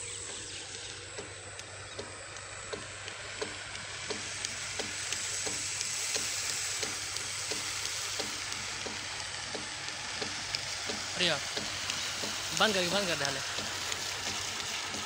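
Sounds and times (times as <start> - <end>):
electric motor humming: 0.0 - 15.0
light regular clicking: 0.0 - 15.0.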